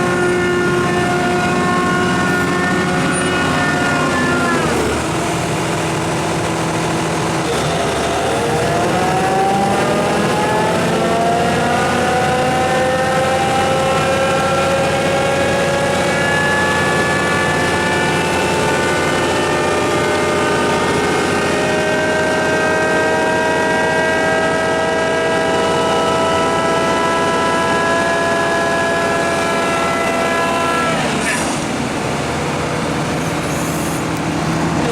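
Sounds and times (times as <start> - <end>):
excavator diesel engine driving: 0.0 - 34.9.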